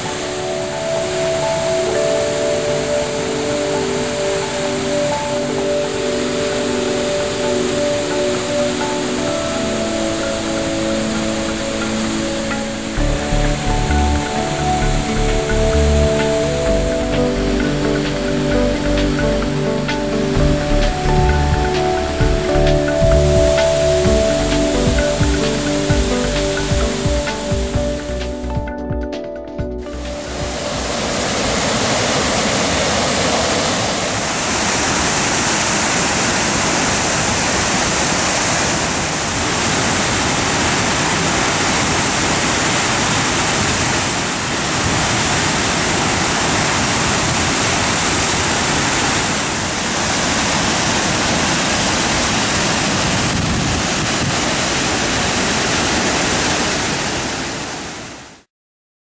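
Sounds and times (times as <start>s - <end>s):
waterfall rushing: 0.0s - 28.6s, 29.8s - 58.5s.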